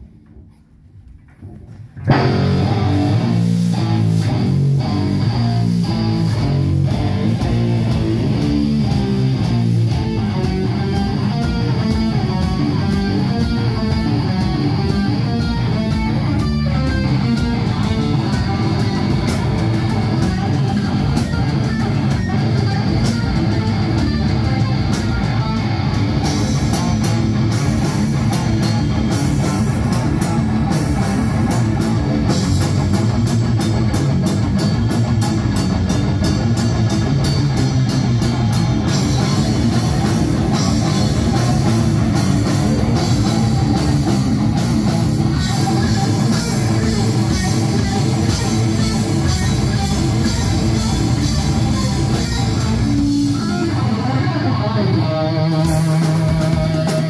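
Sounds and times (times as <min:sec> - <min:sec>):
drums: 0:00.0 - 0:57.0
electric guitar and bass riff: 0:02.0 - 0:57.0.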